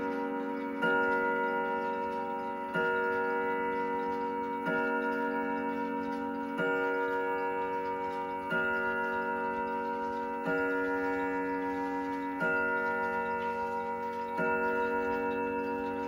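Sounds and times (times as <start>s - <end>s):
clock chime striking: 0.0s - 16.0s
pendulum ticking: 0.0s - 16.0s.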